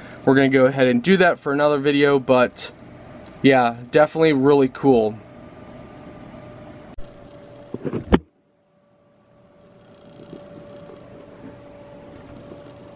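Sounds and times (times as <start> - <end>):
computer fans whirring: 0.0 - 12.9
faint hum: 0.0 - 12.9.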